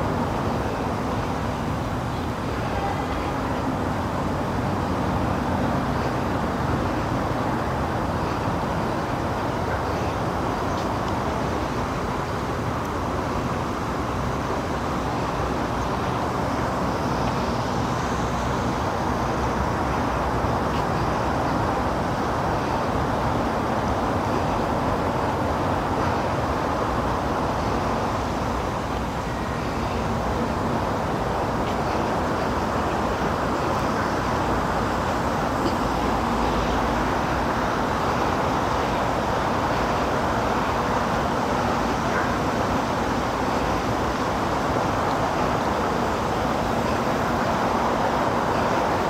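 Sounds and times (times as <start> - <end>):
outdoor rumble and hiss: 0.0 - 49.0.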